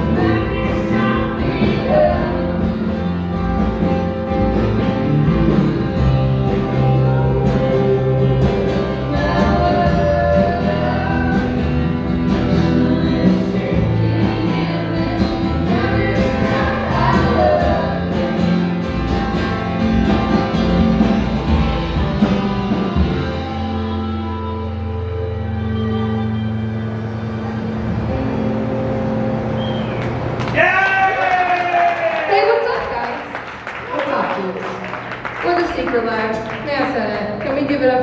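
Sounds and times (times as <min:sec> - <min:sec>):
live rock band playing: 0:00.0 - 0:30.4.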